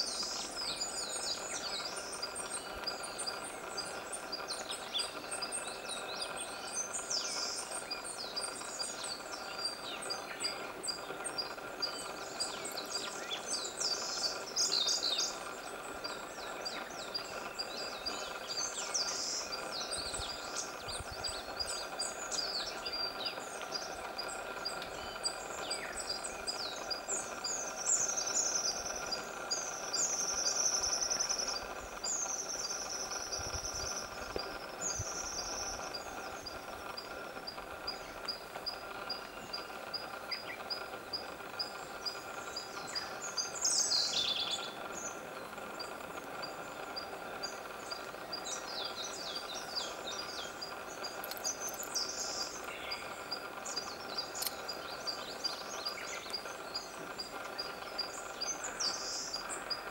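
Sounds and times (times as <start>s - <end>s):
faint high ticking: 0.0s - 59.9s
songbirds singing and calling: 0.0s - 59.9s
steady background hum: 0.0s - 59.9s.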